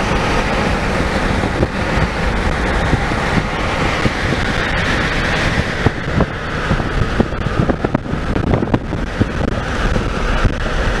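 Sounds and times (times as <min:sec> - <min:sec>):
low rumble: 0:00.0 - 0:11.0
road and wind noise: 0:00.0 - 0:11.0.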